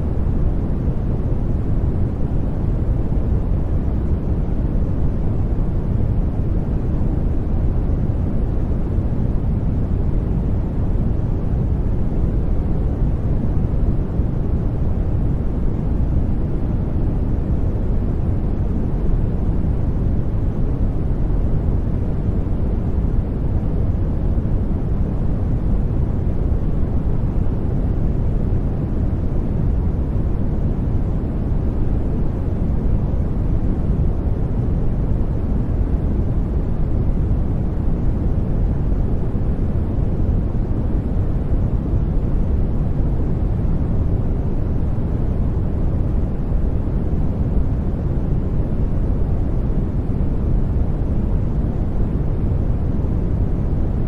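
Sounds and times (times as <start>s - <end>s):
white noise: 0.0s - 54.0s.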